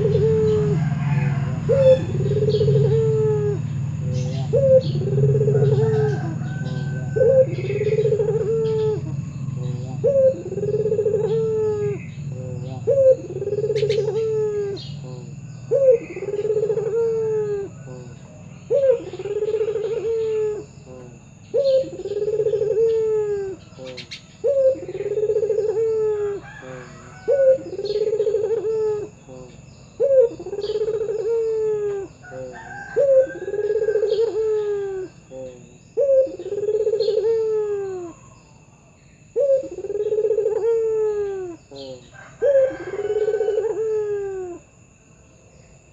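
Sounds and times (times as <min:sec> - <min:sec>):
small birds chirping: 0:00.0 - 0:43.7
dove cooing: 0:00.0 - 0:45.0.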